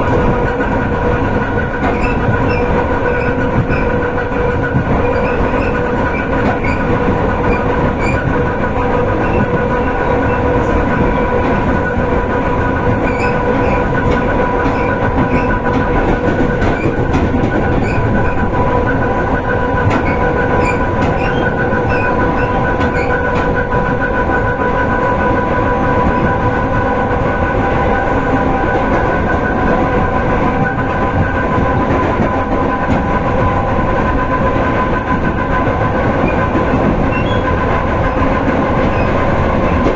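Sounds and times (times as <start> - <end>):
train wheels rumbling on rail: 0.0 - 39.9
train whine: 0.0 - 39.9.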